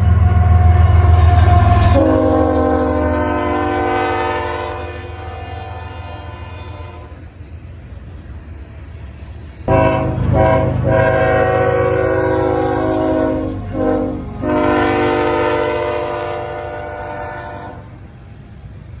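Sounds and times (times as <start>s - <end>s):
locomotive air horn blasts: 0.0s - 7.2s, 9.7s - 18.0s
diesel locomotive rumble: 0.0s - 19.0s.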